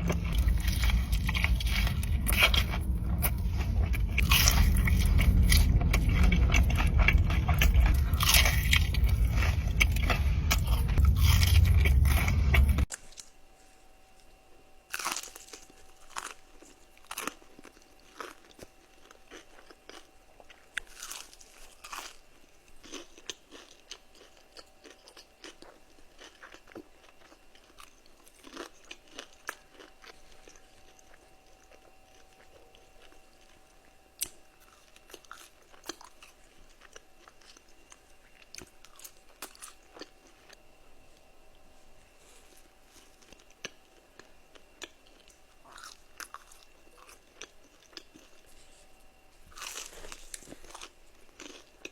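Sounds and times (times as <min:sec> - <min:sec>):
person eating crunchy food: 0:00.0 - 0:13.4, 0:14.9 - 0:41.5, 0:42.1 - 0:51.9.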